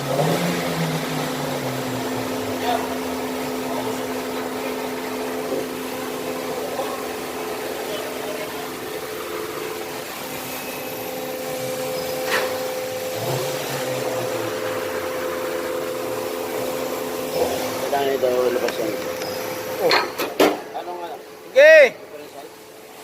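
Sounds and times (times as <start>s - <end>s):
car running noise: 0.0s - 20.7s.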